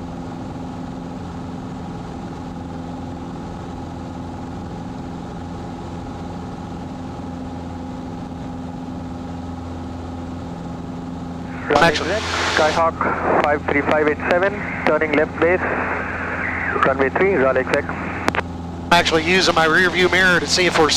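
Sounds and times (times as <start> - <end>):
light aircraft engine drone: 0.0 - 20.9.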